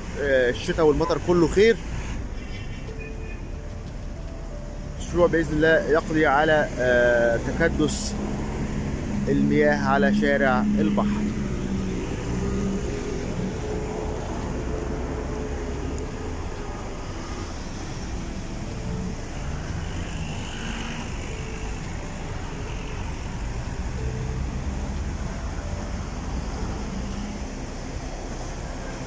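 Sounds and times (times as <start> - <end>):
traffic noise: 0.0 - 29.0.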